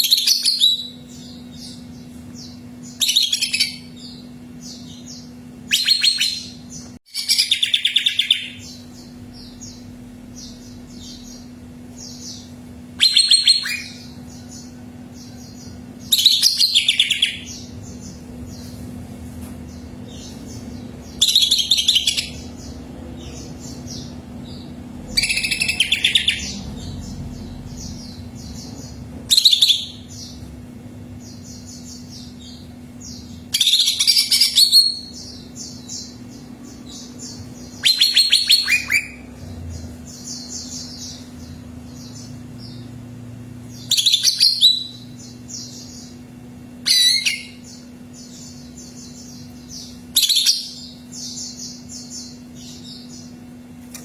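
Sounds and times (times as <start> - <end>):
bird song phrases: 0.0 - 54.0
steady low hum: 0.0 - 54.0.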